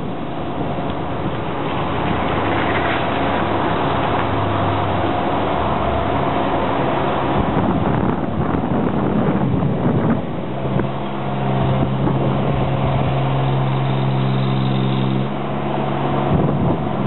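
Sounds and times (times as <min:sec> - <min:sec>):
scissor lift engine running: 0:00.0 - 0:17.0.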